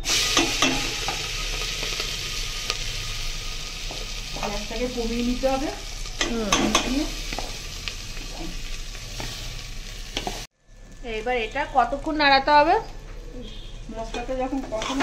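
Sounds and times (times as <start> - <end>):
rice sizzling in hot oil: 0.0 - 15.0.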